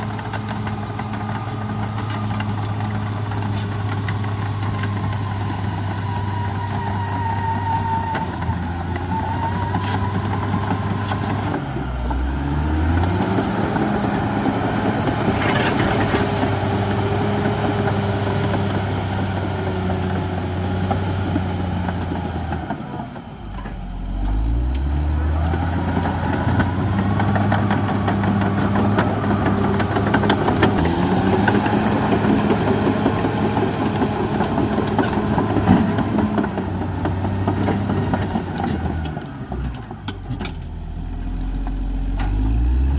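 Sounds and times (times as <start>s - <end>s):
bulldozer diesel engine revving: 0.0s - 42.9s.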